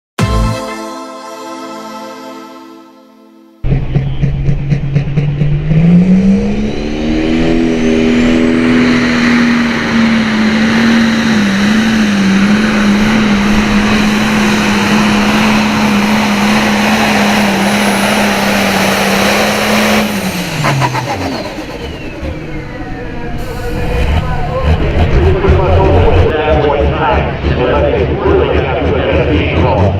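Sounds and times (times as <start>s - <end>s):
tractor diesel engine at full throttle: 3.6s - 29.9s.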